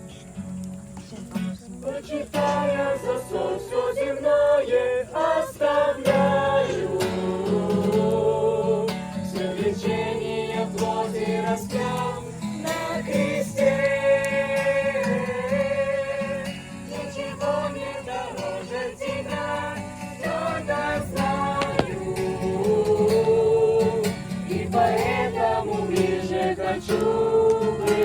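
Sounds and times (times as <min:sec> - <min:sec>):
voices singing together: 0:01.5 - 0:28.0
strummed acoustic guitar: 0:05.6 - 0:28.0.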